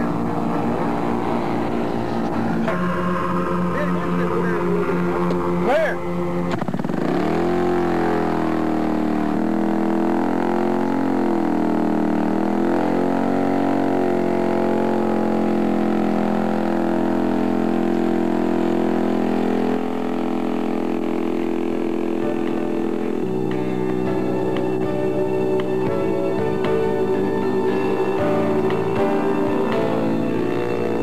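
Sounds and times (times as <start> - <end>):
small two-stroke engine and propeller: 0.0 - 31.0.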